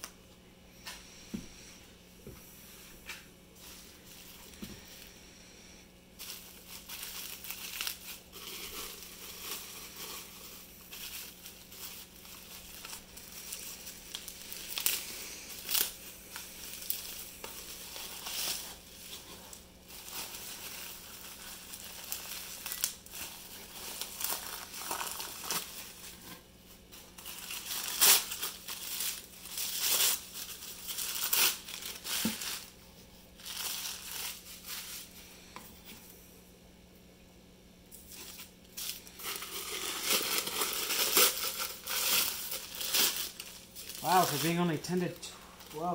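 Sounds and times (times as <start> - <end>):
bubble wrap and paper crinkling: 3.0 - 5.2, 6.1 - 36.1, 37.9 - 45.9.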